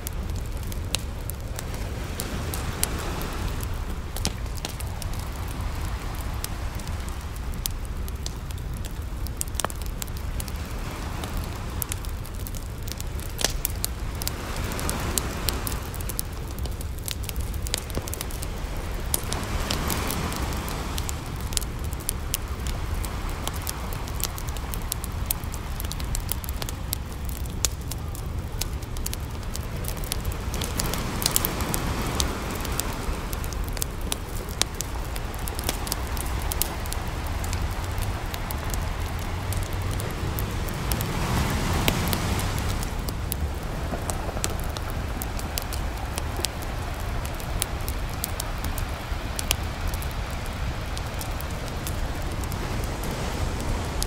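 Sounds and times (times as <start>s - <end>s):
campfire crackling and popping: 0.0s - 54.0s
ocean waves washing in: 0.0s - 54.0s.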